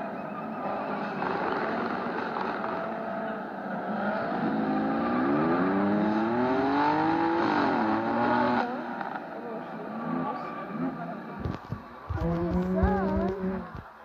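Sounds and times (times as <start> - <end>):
din of other cars: 0.0 - 14.0
sports car engine revving: 1.3 - 13.9.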